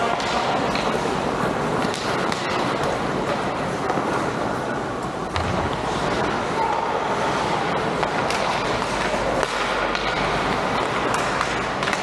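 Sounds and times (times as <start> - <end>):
ice hockey game noise: 0.0 - 12.0.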